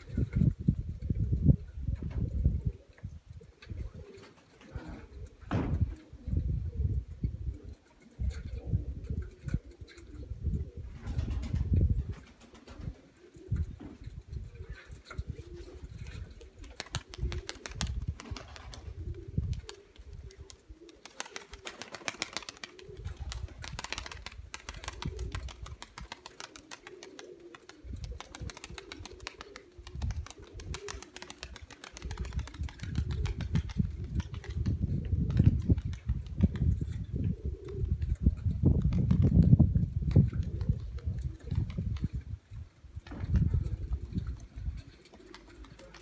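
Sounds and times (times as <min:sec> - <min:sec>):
pigeons cooing: 0:01.4 - 0:38.8, 0:40.2 - 0:42.4, 0:43.0 - 0:46.0.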